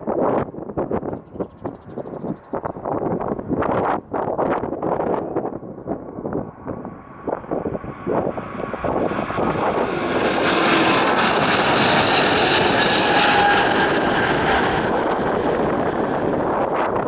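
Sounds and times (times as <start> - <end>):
wind gusts on microphone: 0.0 - 17.0
jet airliner passing: 2.2 - 17.0.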